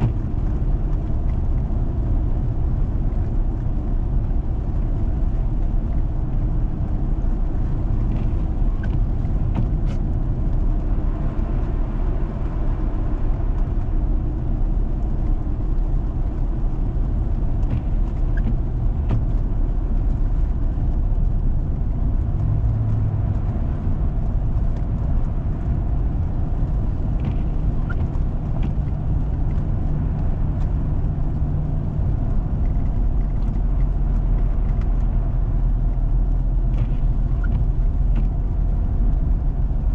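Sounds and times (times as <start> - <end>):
engine hum: 0.0 - 39.9
vehicle engine and tyre rumble: 0.0 - 39.9.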